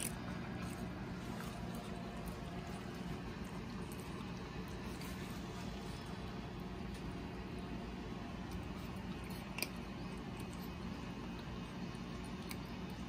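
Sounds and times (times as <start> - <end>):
kittens chewing kibble: 0.0 - 13.0.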